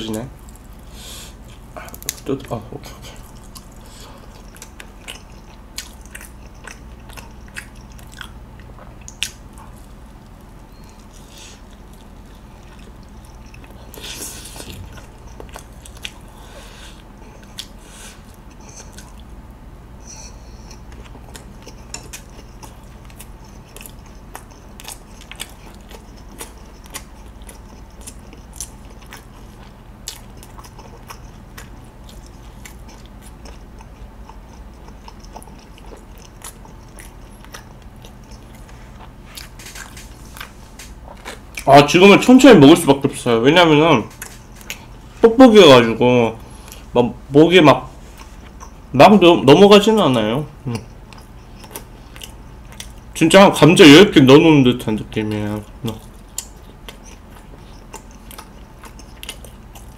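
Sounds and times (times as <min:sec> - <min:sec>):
biting and chewing: 0:03.2 - 0:19.5, 0:20.1 - 0:43.0, 0:44.0 - 0:45.2, 0:48.0 - 0:53.7, 0:55.1 - 0:59.9.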